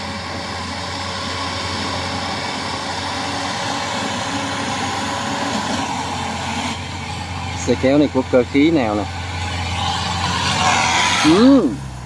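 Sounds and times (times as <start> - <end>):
harvester engine hum: 0.0 - 12.0.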